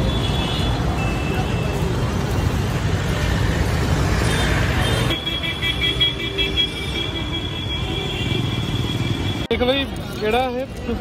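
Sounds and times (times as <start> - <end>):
engines rumbling: 0.0 - 11.0.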